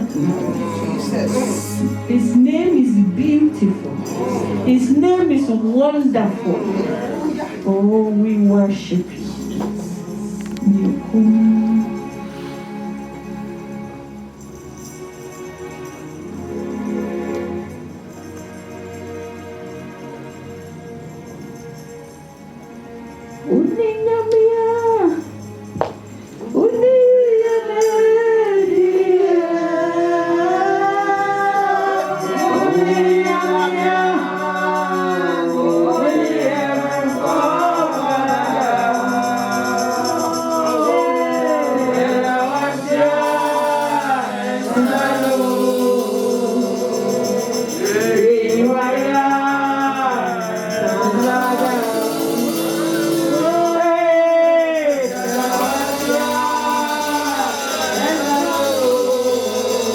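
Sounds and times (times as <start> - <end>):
instrumental backing: 0.0 - 59.9
voices singing gospel song: 0.0 - 59.9.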